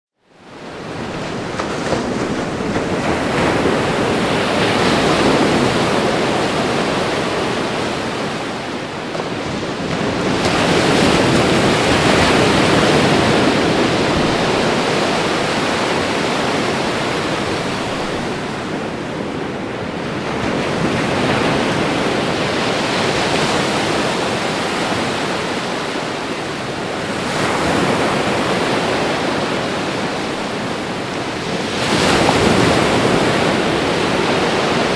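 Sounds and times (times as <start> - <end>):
ocean waves breaking on shore: 0.3 - 34.9.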